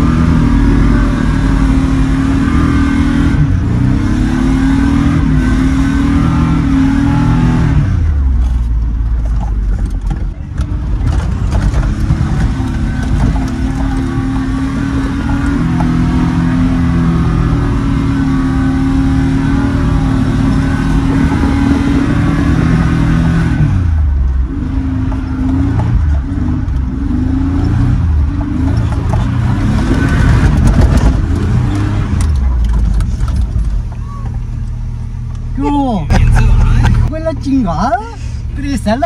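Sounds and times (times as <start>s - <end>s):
pickup engine under load: 0.0s - 37.1s
heavy low rumble: 0.0s - 39.0s.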